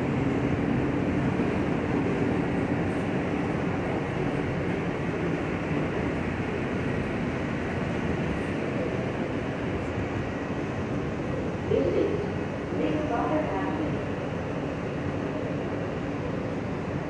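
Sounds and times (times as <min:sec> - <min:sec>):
subway car running noise: 0:00.0 - 0:17.0.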